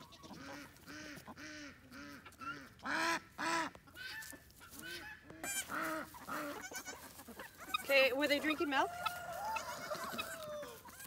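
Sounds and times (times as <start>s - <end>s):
goat kid bleating: 0.0s - 11.0s.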